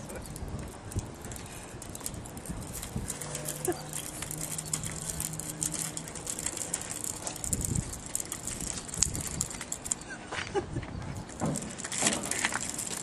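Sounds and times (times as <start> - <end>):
plastic wheels rattling on concrete: 0.0 - 13.0.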